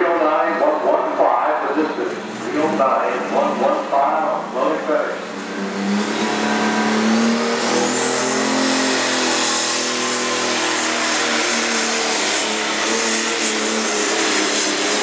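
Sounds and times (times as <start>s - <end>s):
diesel engine running hard: 0.0s - 15.0s
turbo whine: 1.7s - 15.0s.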